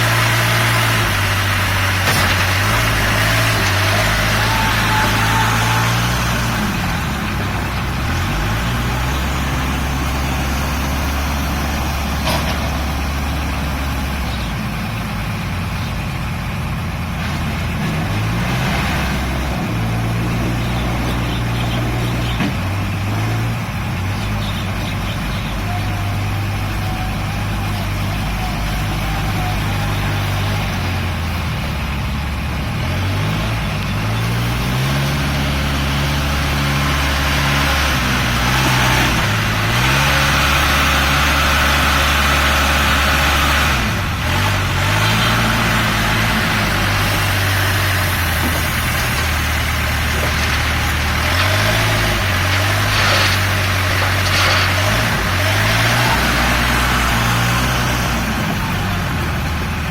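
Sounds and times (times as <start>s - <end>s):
backhoe diesel engine idling and revving: 0.0s - 59.9s.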